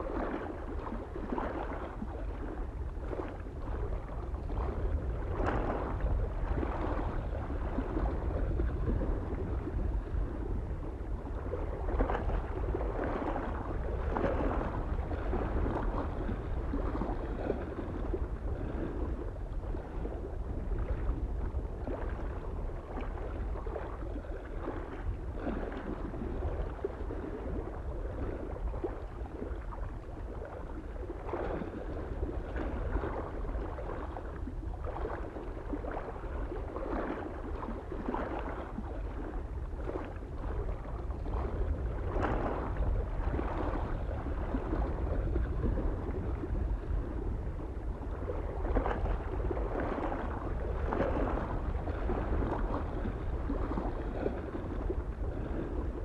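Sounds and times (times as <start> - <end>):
lake waves lapping on shore: 0.0 - 56.0
wind rumble on microphone: 0.0 - 56.0.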